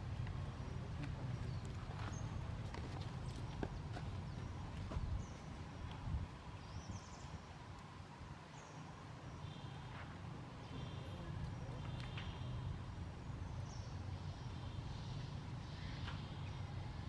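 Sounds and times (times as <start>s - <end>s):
distant birds chirping: 0.0s - 17.0s.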